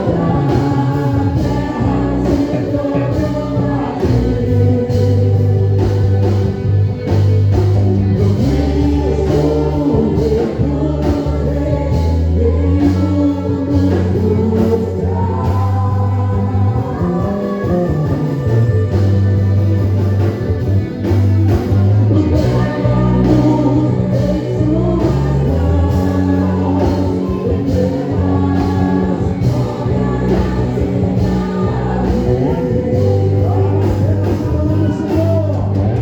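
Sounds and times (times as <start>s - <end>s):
bass line: 0.0s - 36.0s
drums: 0.0s - 36.0s
voices singing gospel song: 0.0s - 36.0s.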